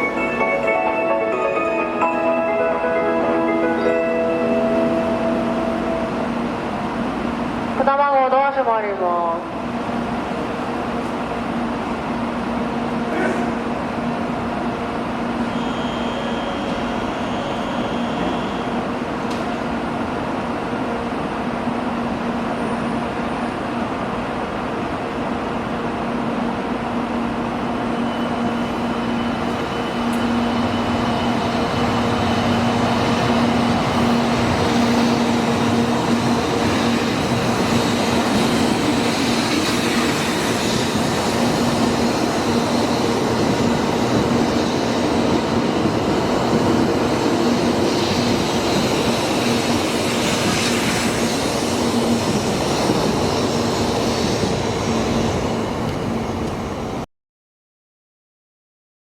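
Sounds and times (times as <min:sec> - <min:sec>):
train running on rails: 0:00.0 - 0:57.1.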